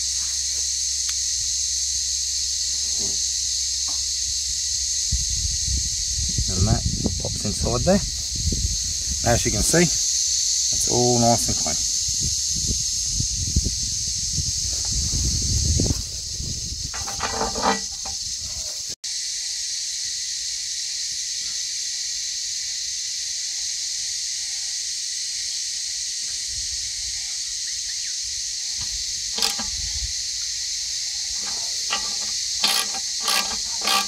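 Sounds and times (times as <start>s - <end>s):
steady high-pitched hiss: 0.0s - 34.0s.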